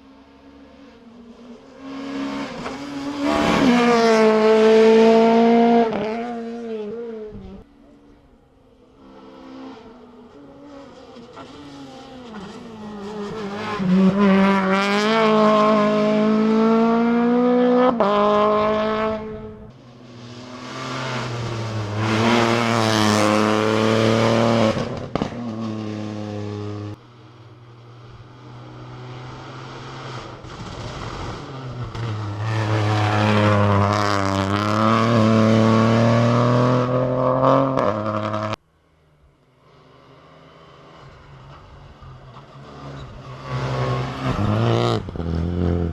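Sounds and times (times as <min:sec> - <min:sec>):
rally car engines at full throttle: 0:00.0 - 0:45.9.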